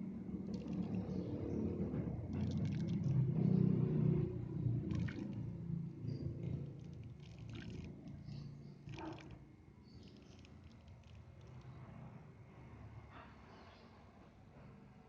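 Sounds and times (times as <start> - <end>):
low mechanical rumble: 0.0 - 13.3.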